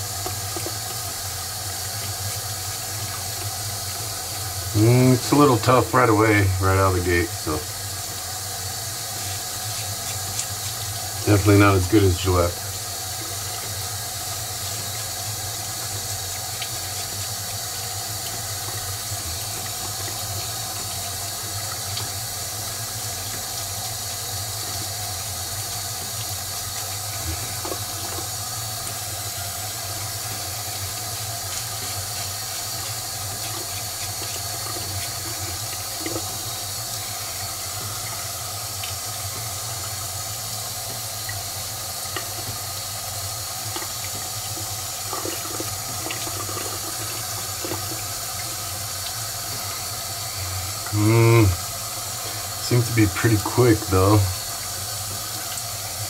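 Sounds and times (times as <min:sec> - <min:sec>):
sink tap running: 0:00.0 - 0:56.0.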